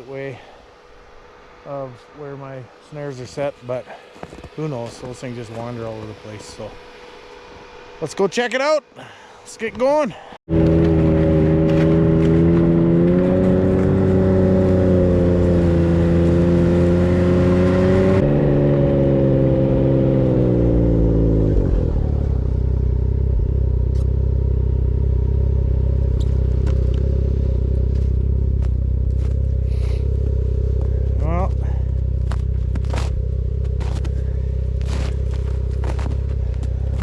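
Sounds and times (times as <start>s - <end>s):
vehicle engine running: 0.0s - 8.1s, 10.5s - 37.0s.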